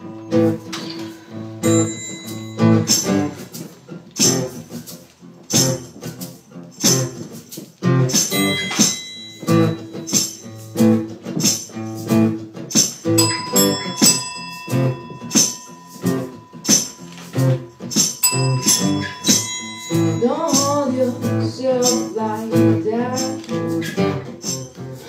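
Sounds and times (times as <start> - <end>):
acoustic guitar strumming: 0.0 - 25.0
hand percussion: 0.0 - 25.0.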